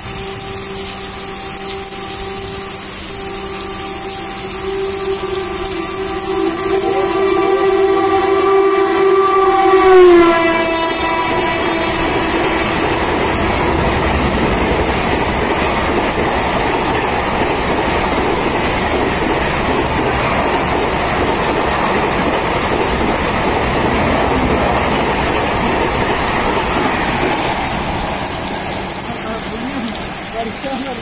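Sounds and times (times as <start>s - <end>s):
express train rushing past: 0.0s - 31.0s.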